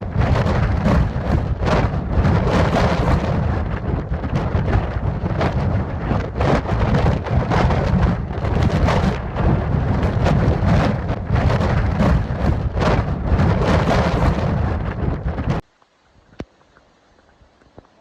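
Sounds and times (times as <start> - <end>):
strong wind buffeting microphone: 0.0 - 15.6.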